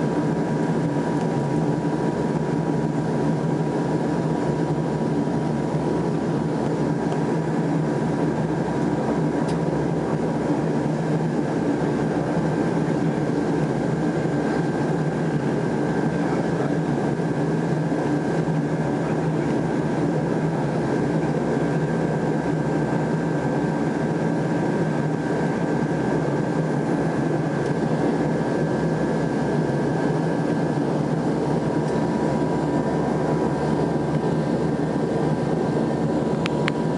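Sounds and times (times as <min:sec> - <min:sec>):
high engine whine: 0:00.0 - 0:36.9
turboprop engine drone: 0:00.0 - 0:36.9.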